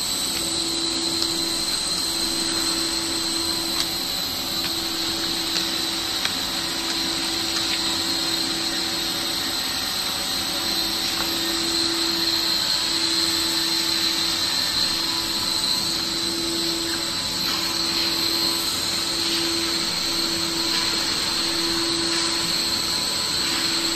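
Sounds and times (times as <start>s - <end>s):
router spindle whine: 0.0s - 23.9s.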